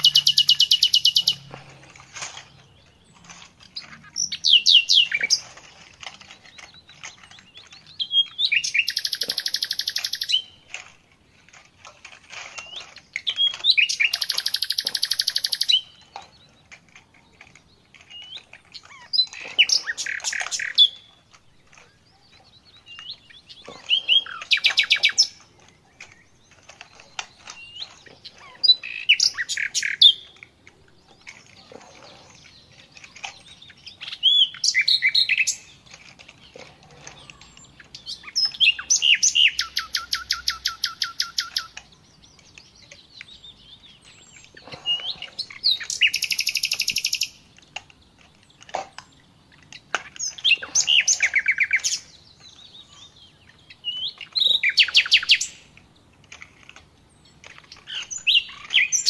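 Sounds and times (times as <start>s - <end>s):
small bird chirping and trilling: 0.0s - 1.5s, 2.5s - 10.6s, 12.5s - 16.7s, 17.3s - 30.4s, 31.0s - 47.5s, 48.4s - 55.7s, 57.1s - 59.0s.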